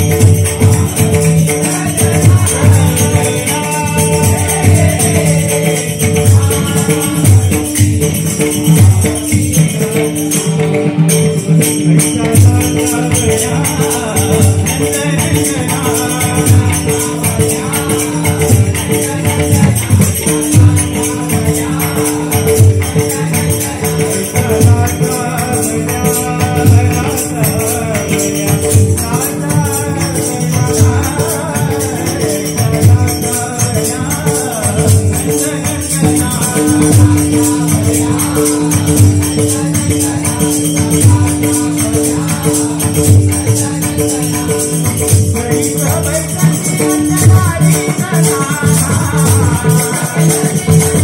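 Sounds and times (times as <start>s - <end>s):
jingling hand cymbals: 0.0s - 51.0s
man singing: 0.0s - 51.0s.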